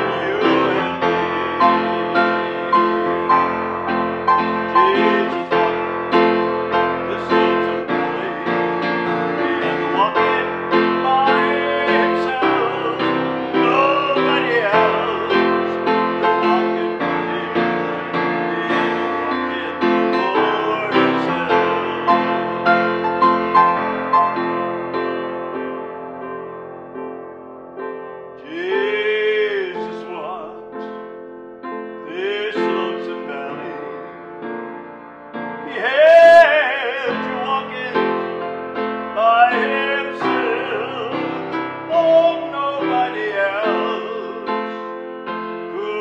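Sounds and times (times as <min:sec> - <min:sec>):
upright piano playing: 0:00.0 - 0:46.0.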